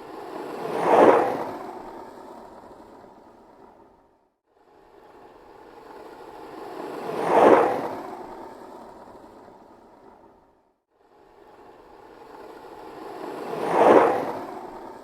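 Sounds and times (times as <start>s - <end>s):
skateboard wheels rolling past: 0.0s - 3.9s, 5.0s - 10.4s, 11.5s - 15.0s.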